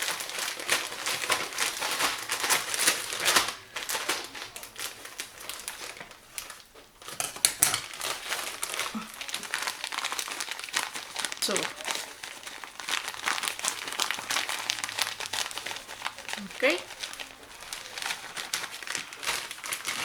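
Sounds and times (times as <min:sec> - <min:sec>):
plastic bag crinkling: 0:00.0 - 0:20.0.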